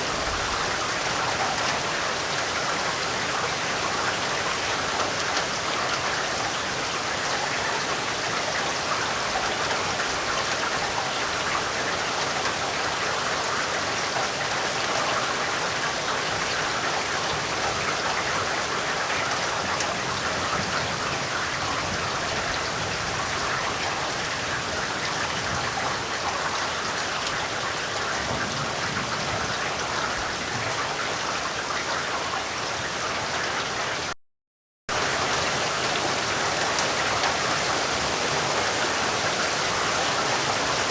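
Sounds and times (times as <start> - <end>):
heavy rain: 0.0 - 34.2, 34.9 - 40.9.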